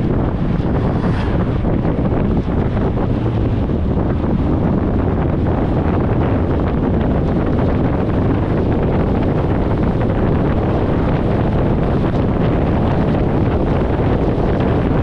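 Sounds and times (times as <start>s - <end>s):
low road noise: 0.0s - 15.0s
wind rush on microphone: 0.0s - 15.0s.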